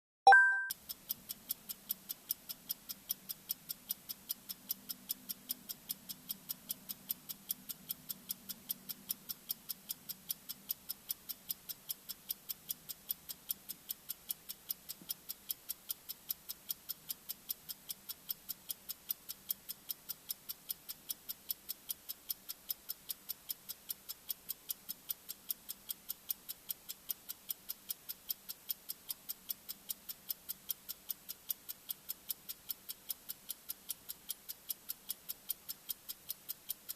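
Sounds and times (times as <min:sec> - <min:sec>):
rapid high-pitched ticking: 0:00.7 - 0:36.9.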